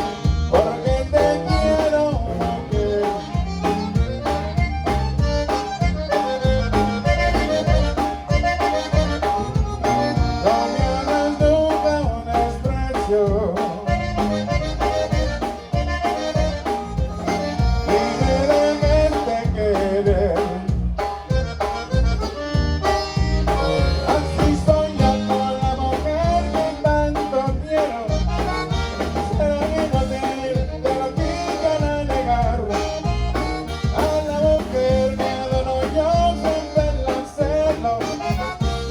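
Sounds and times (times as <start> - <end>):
button accordion melody: 0.0 - 38.9
live band playing instrumental: 0.0 - 38.9.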